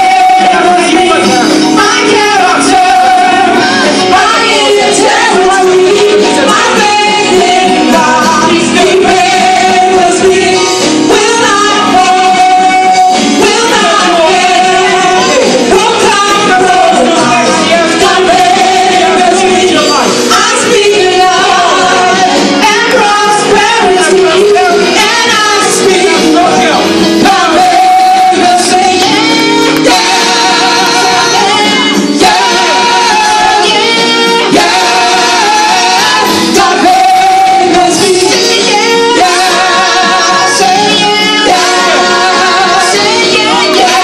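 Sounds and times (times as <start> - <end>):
group singing gospel song: 0.0 - 44.0.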